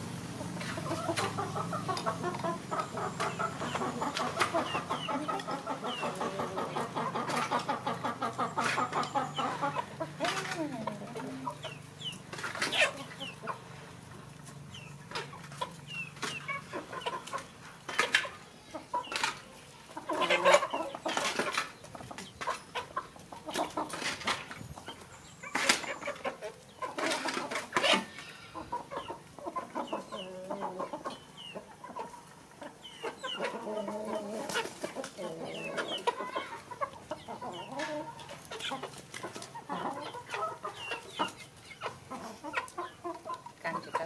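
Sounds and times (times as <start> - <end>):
chickens clucking: 0.0 - 44.0.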